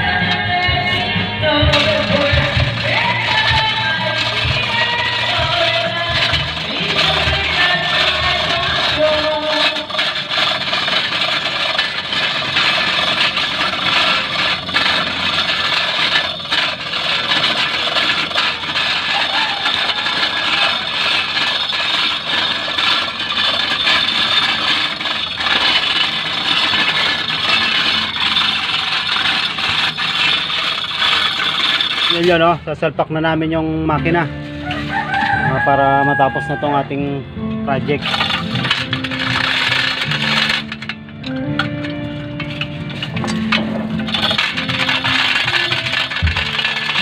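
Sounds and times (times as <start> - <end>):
chain hoist rattling: 1.7 - 32.6, 34.1 - 36.8, 37.9 - 47.0.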